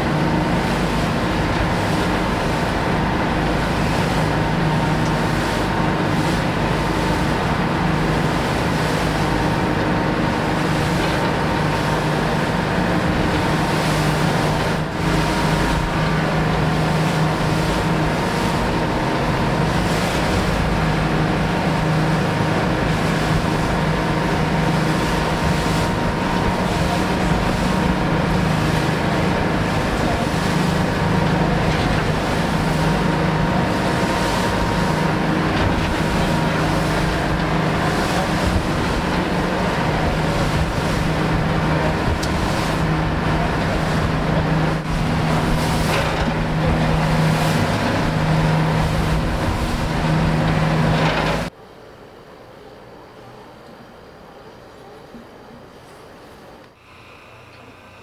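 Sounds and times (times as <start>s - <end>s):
water noise: 0.0s - 51.6s
boat engine drone: 0.0s - 58.0s
wind: 0.0s - 58.0s.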